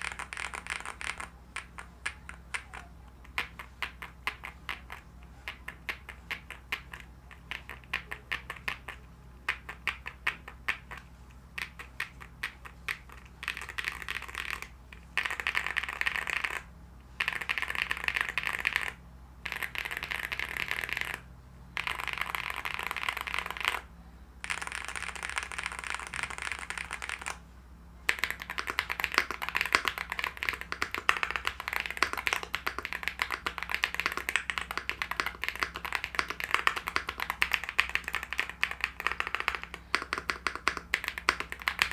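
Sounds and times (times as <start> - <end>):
mechanical keyboard typing: 0.0 - 21.2, 21.8 - 23.8, 24.4 - 27.4, 28.1 - 41.9.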